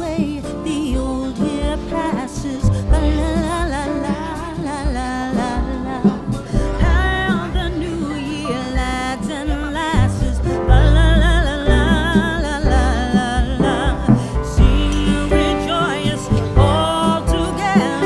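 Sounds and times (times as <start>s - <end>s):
song with singer and heavy bass: 0.0s - 18.0s.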